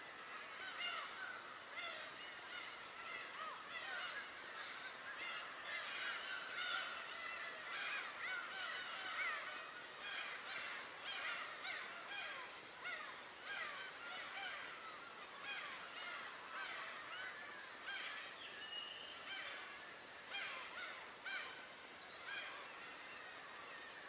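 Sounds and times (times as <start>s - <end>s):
flock of birds calling: 0.1s - 18.4s, 19.2s - 23.9s.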